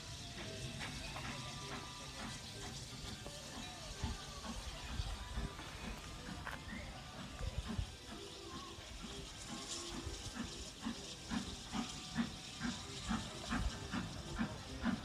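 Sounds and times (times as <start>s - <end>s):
steady steam hiss: 0.0s - 15.0s
steam locomotive chuffing: 0.0s - 15.0s.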